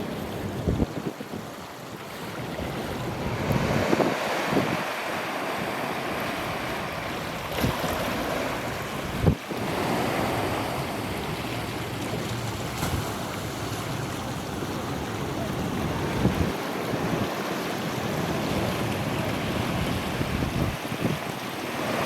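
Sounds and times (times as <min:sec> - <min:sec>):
wind rushing across microphone: 0:00.1 - 0:22.0.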